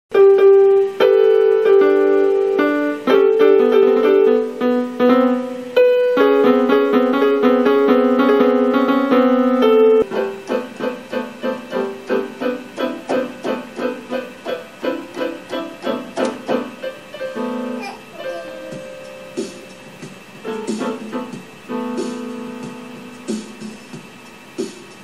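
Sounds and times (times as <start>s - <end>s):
piano melody: 0.1s - 25.0s.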